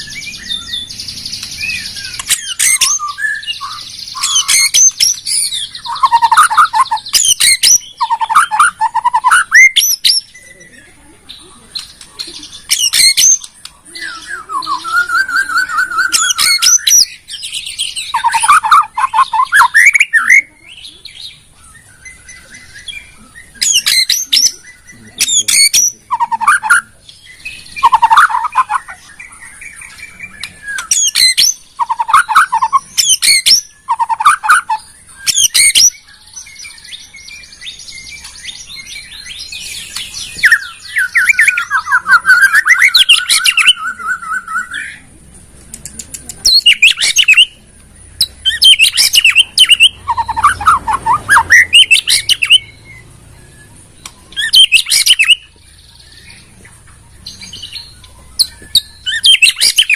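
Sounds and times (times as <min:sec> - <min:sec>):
songbird whistling and chattering: 0:00.0 - 0:45.1, 0:45.8 - 0:59.9.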